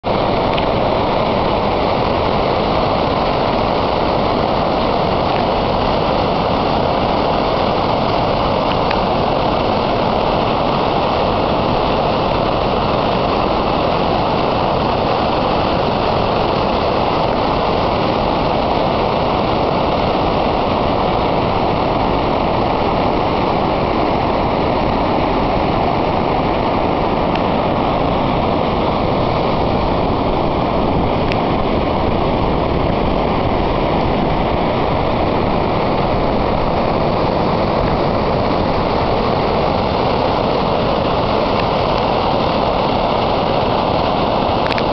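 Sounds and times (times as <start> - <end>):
water gushing from dam: 0.0 - 44.9.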